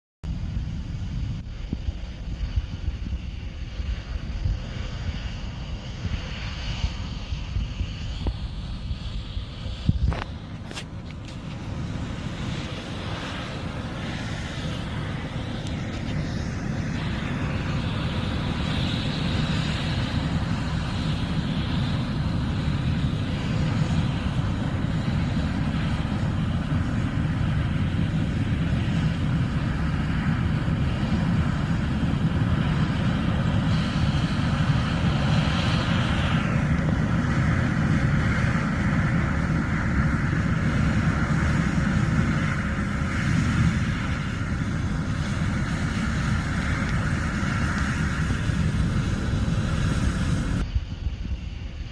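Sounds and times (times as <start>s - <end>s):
combine harvester rumble: 0.3s - 51.5s.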